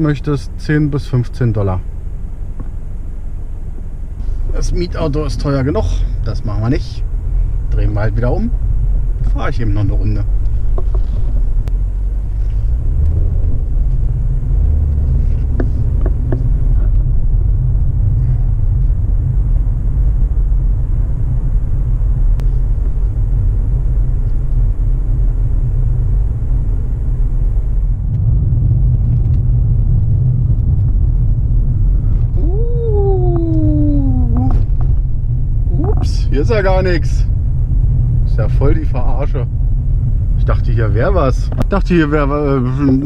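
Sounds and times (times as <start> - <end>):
car cabin road and engine rumble: 0.0 - 43.0.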